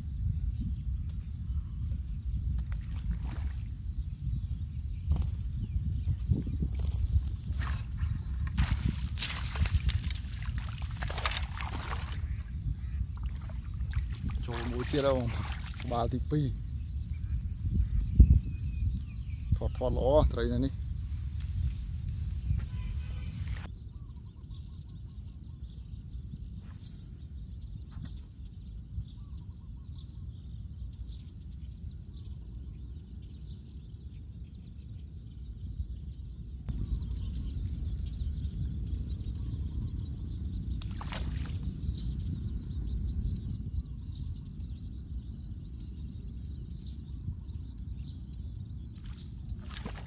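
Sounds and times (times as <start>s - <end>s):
wind rumbling on microphone: 0.0s - 50.0s
small birds chirping: 0.2s - 50.0s.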